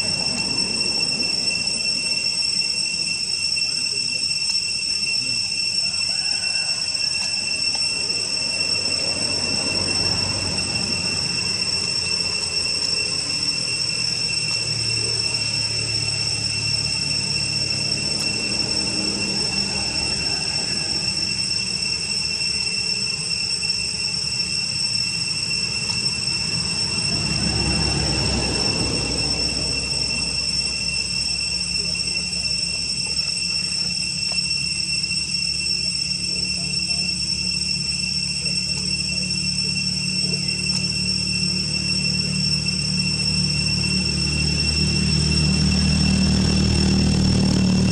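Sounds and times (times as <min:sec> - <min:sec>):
high-pitched insect drone: 0:00.0 - 0:47.9.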